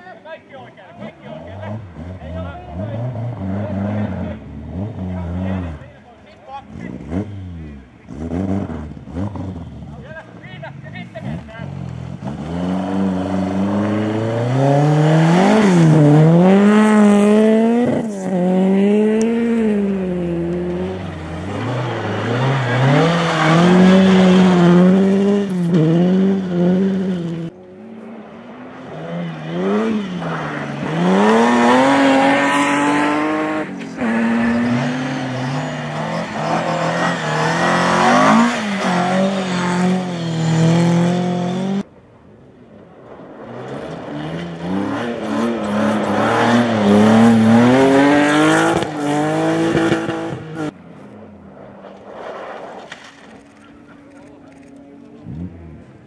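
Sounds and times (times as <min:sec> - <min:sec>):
rally car engines revving: 0:00.0 - 0:42.0, 0:42.8 - 0:56.0.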